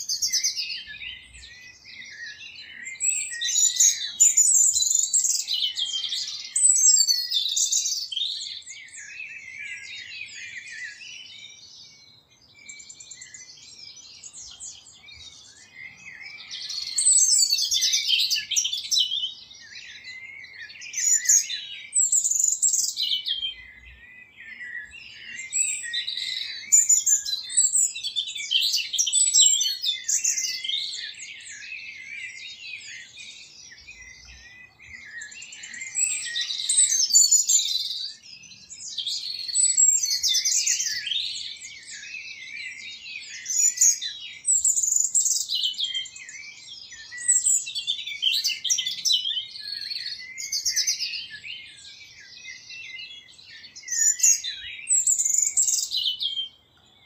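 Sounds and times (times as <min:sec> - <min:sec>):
birds chirping and twittering: 0:00.0 - 0:57.0.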